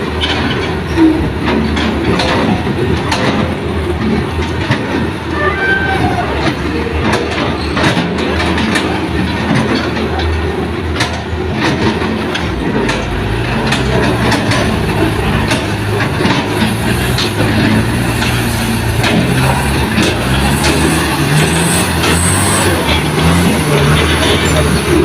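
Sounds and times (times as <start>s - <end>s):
excavator engine running: 0.0s - 25.0s
low truck engine: 0.0s - 25.0s
metallic clanks and knocks: 0.0s - 25.0s.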